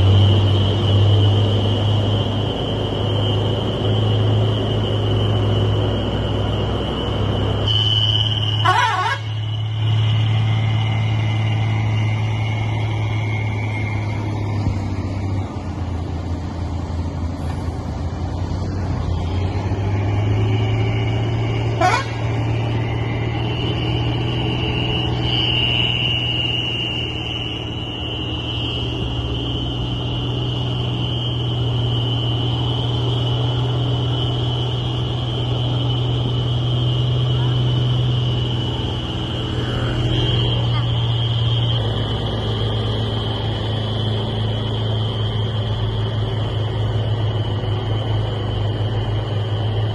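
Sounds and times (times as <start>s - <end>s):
high whine: 0.0s - 49.9s
truck diesel engine running: 0.0s - 49.9s.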